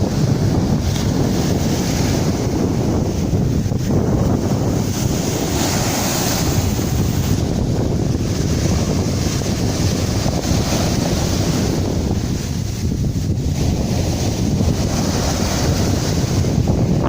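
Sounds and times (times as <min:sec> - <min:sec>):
sea waves washing in: 0:00.0 - 0:17.0
wind buffeting microphone: 0:00.0 - 0:17.0.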